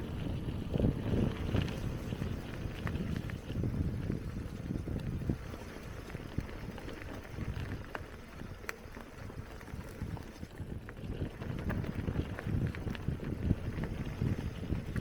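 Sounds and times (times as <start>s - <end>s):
bicycle clicks and rattles: 0.0s - 15.0s
bicycle tyres rumbling on dirt: 0.0s - 15.0s
wind on microphone: 0.0s - 15.0s.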